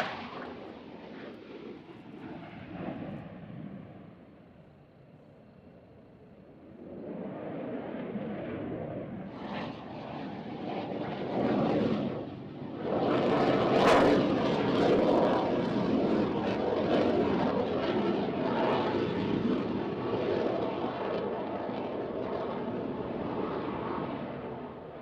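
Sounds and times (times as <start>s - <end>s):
aircraft engine noise: 0.0s - 25.0s.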